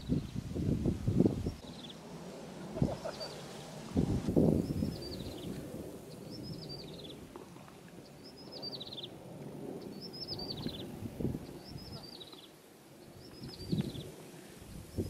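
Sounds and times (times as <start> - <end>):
songbird singing: 0.0 - 2.1, 2.7 - 3.8, 4.4 - 9.2, 9.8 - 14.2.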